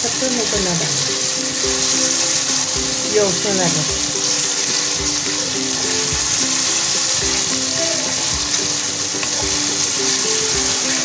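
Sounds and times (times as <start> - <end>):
background music with soft beat: 0.0 - 11.0
vegetables sizzling in hot oil: 0.0 - 11.0.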